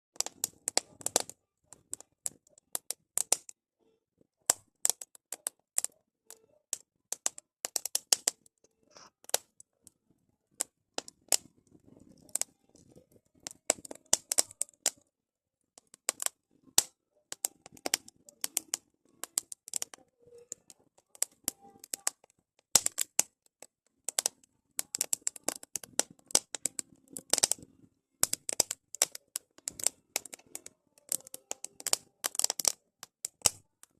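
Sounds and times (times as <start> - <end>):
wood fire crackling: 0.2 - 3.6, 4.5 - 15.1, 15.8 - 33.9.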